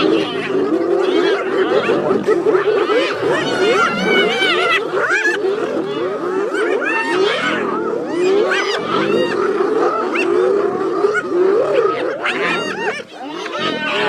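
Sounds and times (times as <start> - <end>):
wild animals calling: 0.0 - 14.0.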